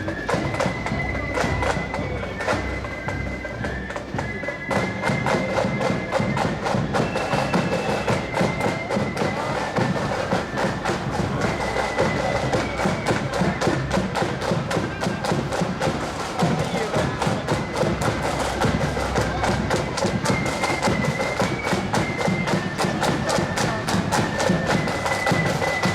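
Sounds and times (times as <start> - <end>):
marching band playing: 0.0 - 25.9
snare drum strokes: 0.0 - 25.9.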